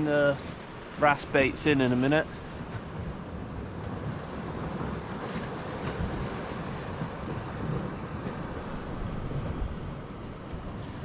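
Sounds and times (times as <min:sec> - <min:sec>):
waves on rocky shore: 0:00.0 - 0:11.0
wind buffeting microphone: 0:00.0 - 0:11.0.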